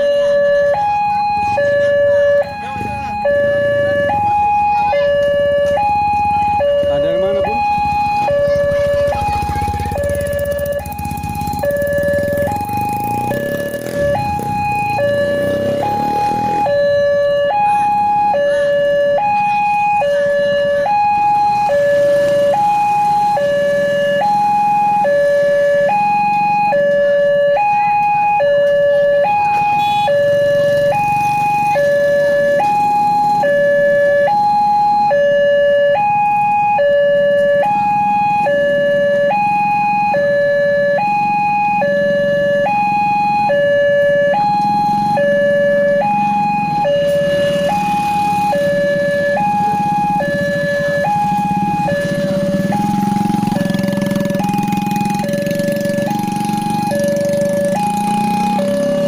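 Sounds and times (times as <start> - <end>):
level crossing alarm two tones: 0.0 - 59.0
low traffic rumble: 0.0 - 59.0.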